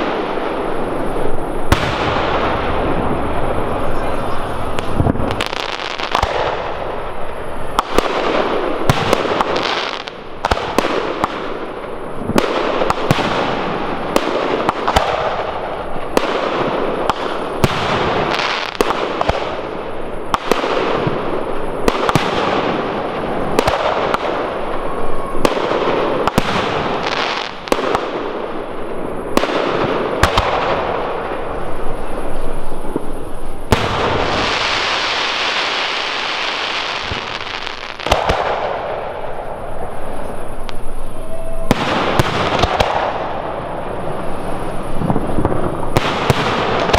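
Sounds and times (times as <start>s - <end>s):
fireworks bangs: 0.0s - 46.9s
fireworks crackling: 0.0s - 46.9s.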